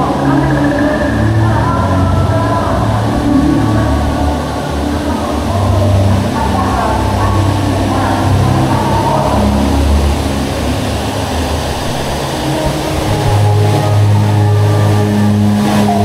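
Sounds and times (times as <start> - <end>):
loud low rumbling drone: 0.0 - 16.0
sustained tones: 0.0 - 16.0.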